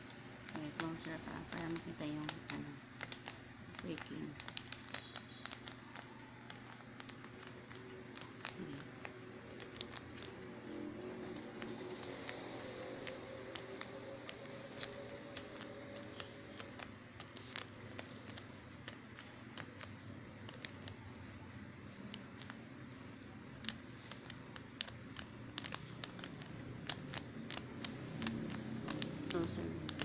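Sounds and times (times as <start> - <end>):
pin pricking paper ticks: 0.0 - 22.6, 23.6 - 30.0.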